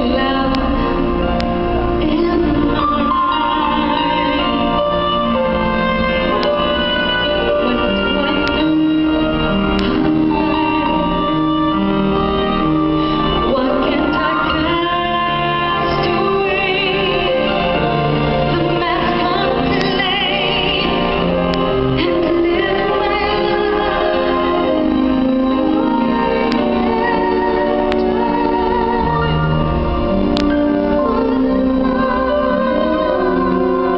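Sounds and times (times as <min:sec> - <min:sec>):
band playing: 0:00.0 - 0:33.9
woman singing with vibrato: 0:00.0 - 0:33.9.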